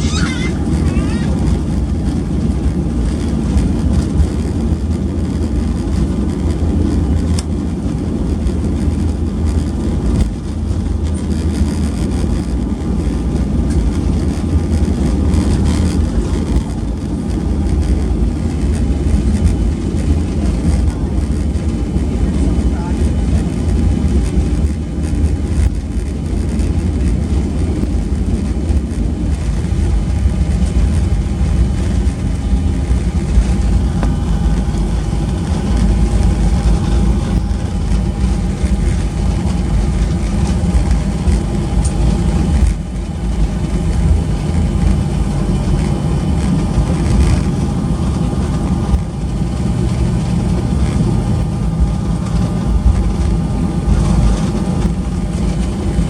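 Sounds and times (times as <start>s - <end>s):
airframe rolling on taxiway: 0.0s - 56.0s
jet engines idling: 0.0s - 56.0s.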